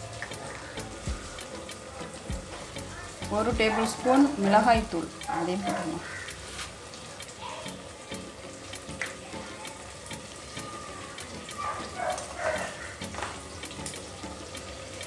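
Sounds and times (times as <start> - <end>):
food sizzling with pops: 0.0 - 15.0.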